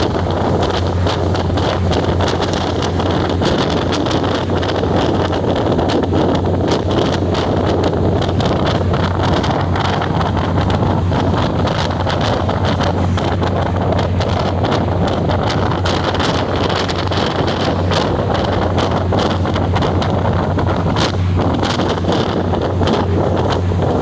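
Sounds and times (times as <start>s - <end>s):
rattling and clicking: 0.0s - 24.0s
train running hum: 0.0s - 24.0s
wind buffeting microphone: 0.0s - 24.0s.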